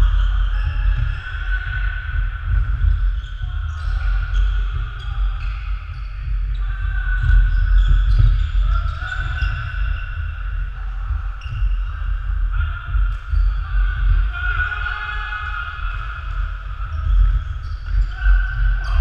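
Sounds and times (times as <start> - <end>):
voices echoing: 0.0 - 19.0.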